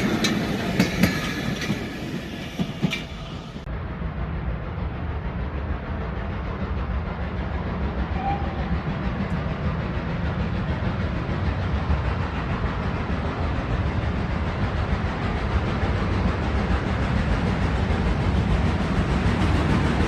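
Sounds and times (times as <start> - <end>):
train rumbling by: 0.0 - 20.0.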